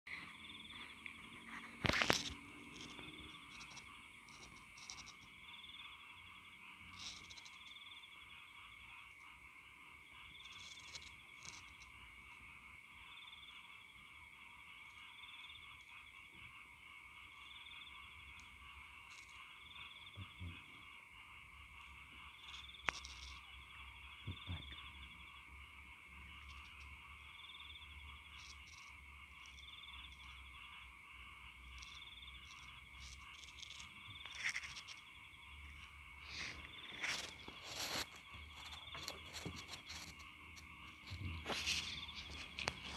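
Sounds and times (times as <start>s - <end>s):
chorus of frogs and insects: 0.1s - 42.9s.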